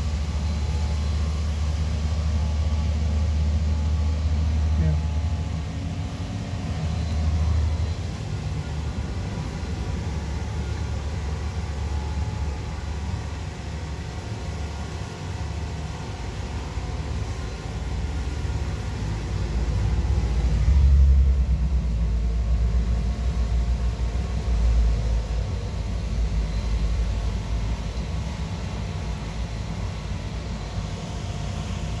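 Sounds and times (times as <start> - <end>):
vehicle engines idling: 3.0 - 31.1.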